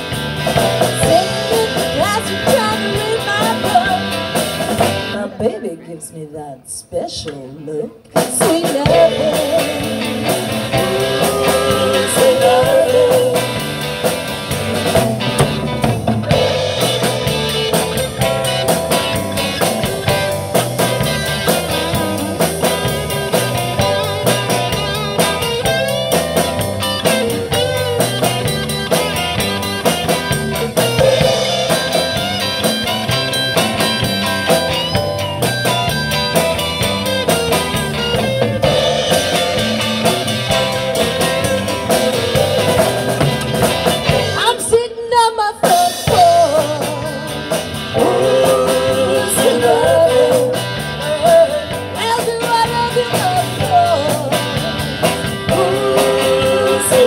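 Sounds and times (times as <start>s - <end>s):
drum kit: 0.0s - 5.3s, 8.2s - 45.0s, 45.6s - 57.0s
electric guitar: 0.0s - 5.9s, 7.2s - 57.0s
bass: 0.0s - 57.0s.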